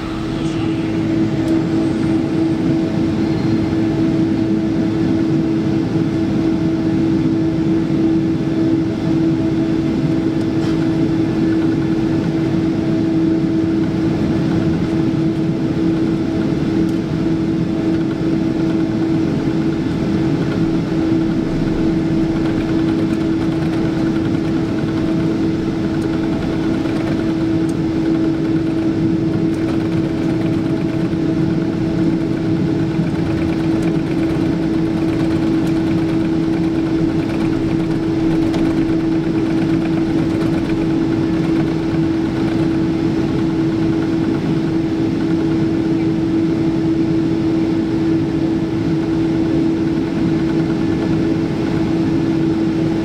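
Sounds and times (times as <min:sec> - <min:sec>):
aircraft cabin engine hum: 0:00.0 - 0:53.0.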